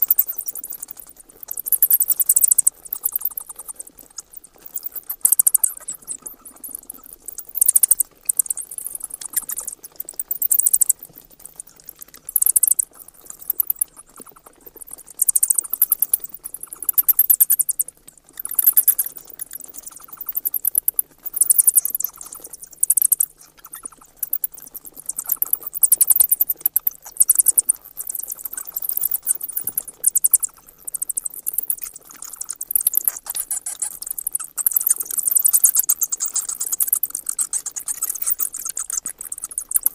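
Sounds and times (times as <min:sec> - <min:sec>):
bats chattering: 0:00.0 - 0:39.9.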